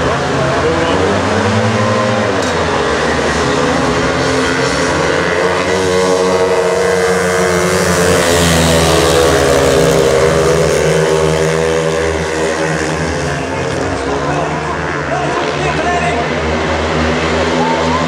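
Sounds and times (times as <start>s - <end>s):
motorbike engines racing: 0.0s - 18.0s.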